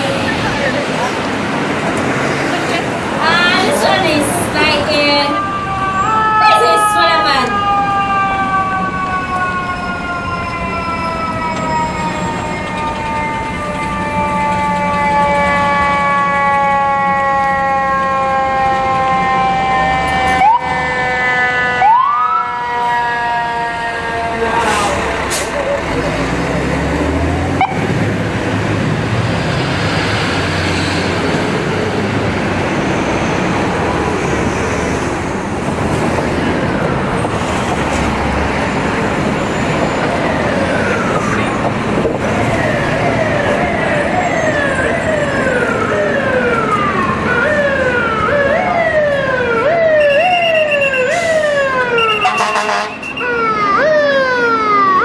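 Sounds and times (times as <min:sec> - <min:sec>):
fire truck siren: 0:00.0 - 0:55.0
traffic and heavy engine: 0:00.0 - 0:55.0.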